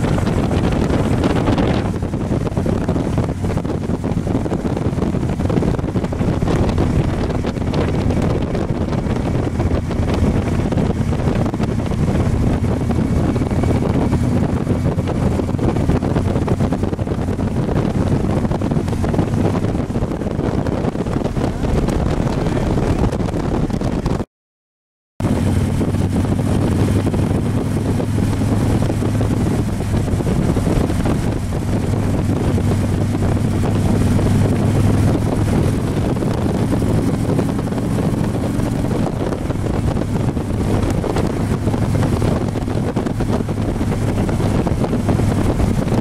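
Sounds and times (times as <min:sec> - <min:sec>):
motorcycle engine: 0:00.0 - 0:24.2, 0:25.2 - 0:46.0
road noise: 0:00.0 - 0:24.2, 0:25.2 - 0:46.0
wind rush on microphone: 0:00.0 - 0:24.3, 0:25.2 - 0:46.0.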